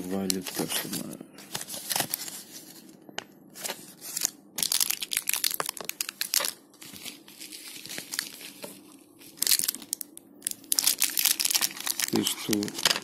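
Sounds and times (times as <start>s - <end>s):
paper and plastic bags crinkling: 0.0s - 2.9s, 3.6s - 13.0s.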